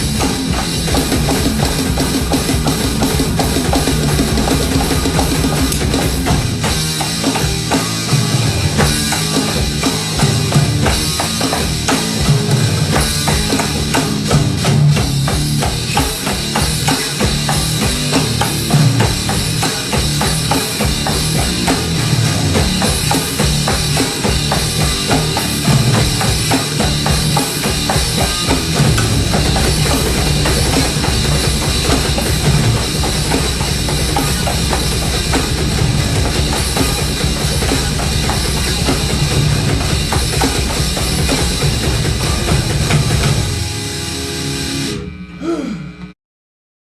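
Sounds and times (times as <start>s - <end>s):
bass drum and snare hits: 0.0s - 43.8s
live band playing heavy music: 0.0s - 44.9s.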